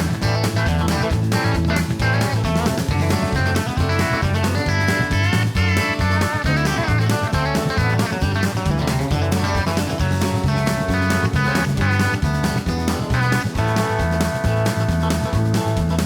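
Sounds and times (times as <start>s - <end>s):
guitar music over steady beat: 0.0s - 16.0s.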